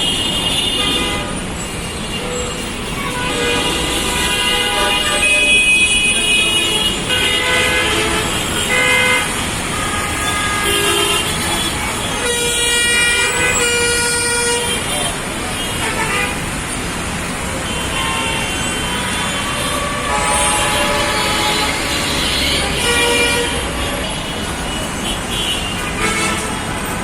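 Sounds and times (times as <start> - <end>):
vehicle horns honking: 0.0 - 16.5, 17.5 - 26.7
road traffic noise: 0.0 - 27.0.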